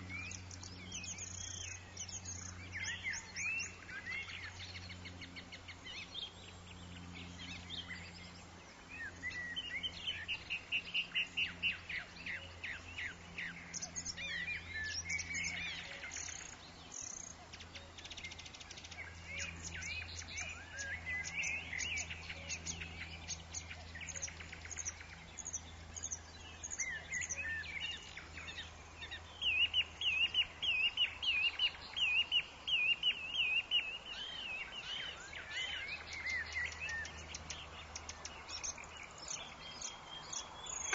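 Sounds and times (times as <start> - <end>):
bird fast warbling song: 0.0 - 40.9
birds chirping and trilling: 0.0 - 40.9.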